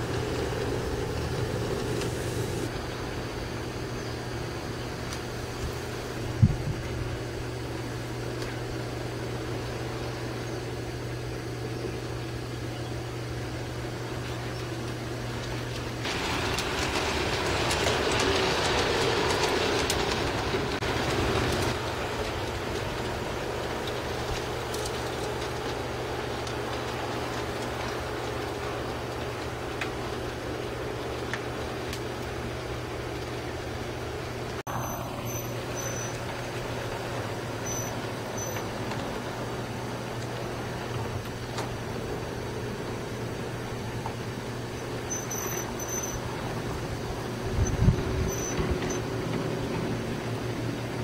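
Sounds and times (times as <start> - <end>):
wheels rolling on rails: 0.0 - 51.0.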